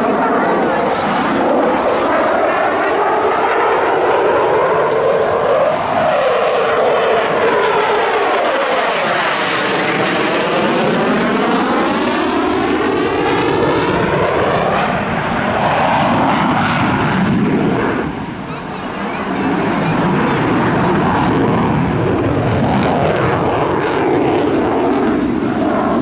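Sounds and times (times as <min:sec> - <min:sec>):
fighter jet passing: 0:00.0 - 0:26.0.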